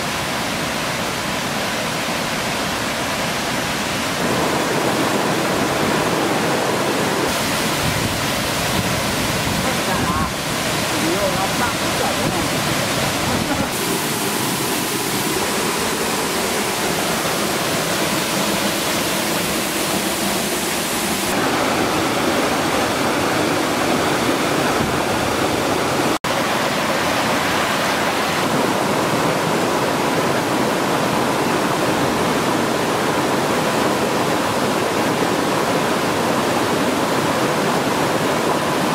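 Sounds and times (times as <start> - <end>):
waterfall splashing over rock: 0.0 - 38.9.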